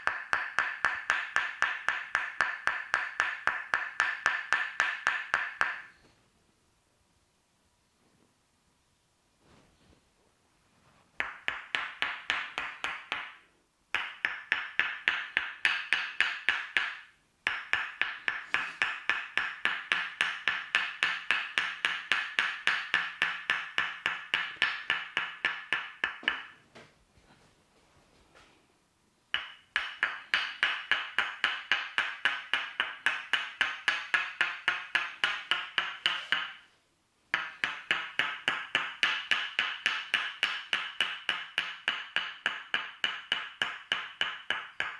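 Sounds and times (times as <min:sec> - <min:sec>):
wooden mallet tapping wooden wedge: 0:00.0 - 0:06.1, 0:11.2 - 0:26.6, 0:29.3 - 0:44.9.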